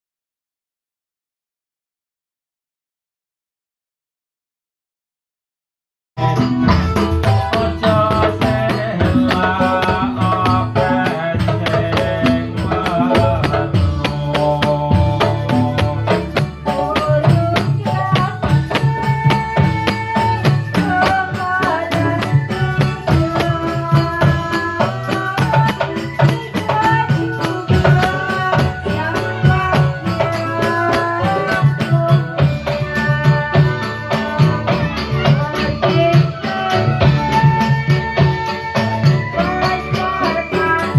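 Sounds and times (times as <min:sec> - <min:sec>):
fast hand drum and percussion: 0:06.2 - 0:40.9.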